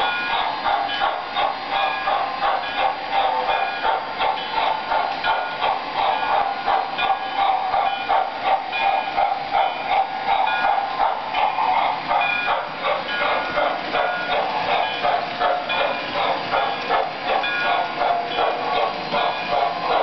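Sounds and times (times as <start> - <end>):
model train rolling on track: 0.0 - 20.0.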